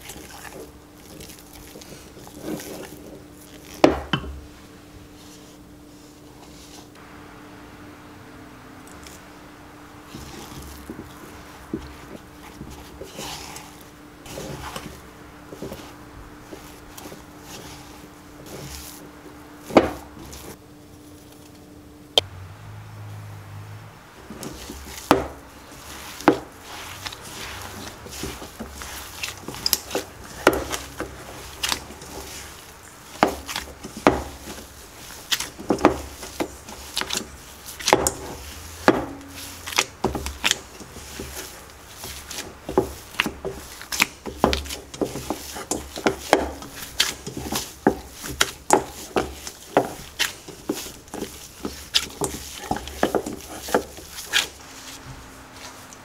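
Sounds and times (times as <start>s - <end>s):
dough kneaded in steel bowl: 0.0s - 56.0s.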